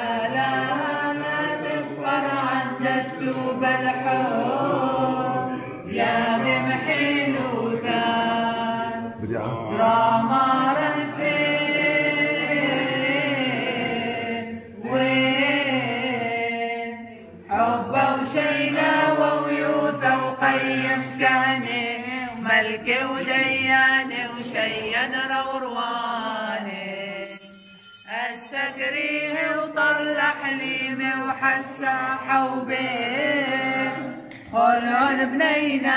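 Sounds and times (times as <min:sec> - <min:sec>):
group singing unaccompanied: 0:00.0 - 0:27.5, 0:28.1 - 0:35.9.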